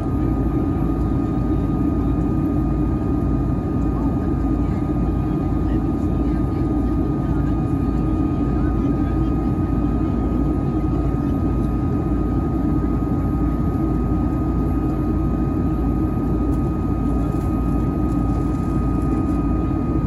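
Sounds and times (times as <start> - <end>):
jet engine and airflow roar: 0.0 - 20.0
thin steady whine: 0.0 - 20.0.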